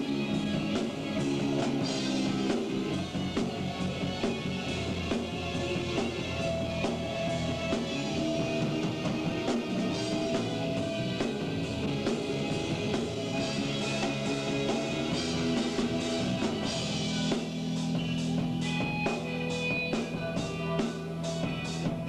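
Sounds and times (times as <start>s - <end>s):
drum kit with cymbal hits: 0.0s - 22.0s
electric guitar: 0.0s - 22.0s.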